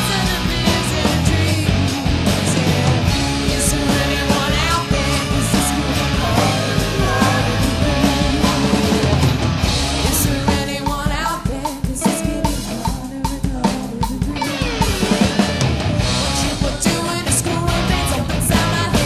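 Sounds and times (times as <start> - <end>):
rock band playing instrumental: 0.0 - 19.0.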